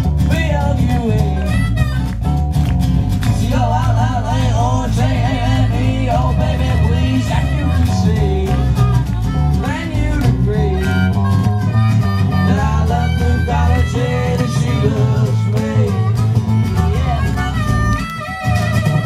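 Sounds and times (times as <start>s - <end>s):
live blues-rock band: 0.0s - 19.0s
wavering lead guitar melody: 0.0s - 19.0s.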